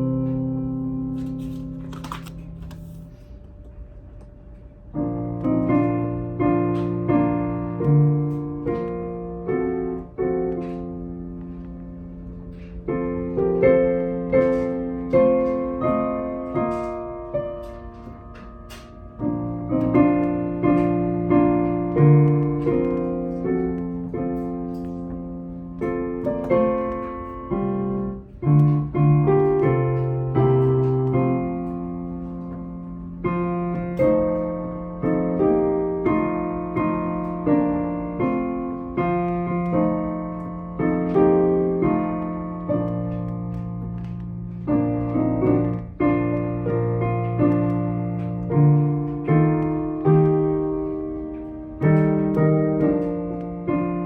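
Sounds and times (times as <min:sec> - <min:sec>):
piano playing hymn chords: 0:00.0 - 0:54.0.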